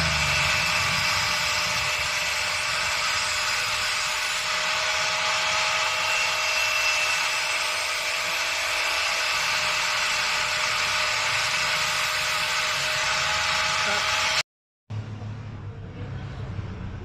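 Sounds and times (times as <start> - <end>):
angle grinder sharpening blade: 0.0 - 14.4.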